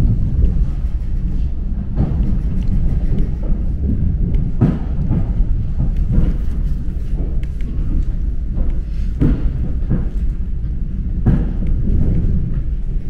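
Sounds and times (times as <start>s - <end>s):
electric train rumbling: 0.0s - 13.0s
wheels knocking over rail joints: 1.8s - 13.0s.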